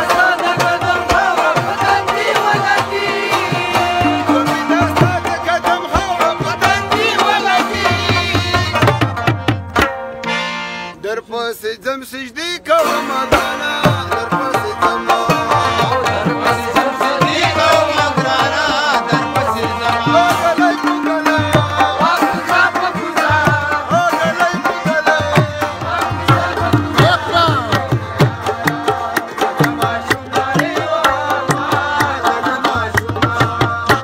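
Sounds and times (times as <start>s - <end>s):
man singing: 0.0s - 9.3s, 11.0s - 34.0s
hand drum beat: 0.0s - 10.0s, 13.3s - 34.0s.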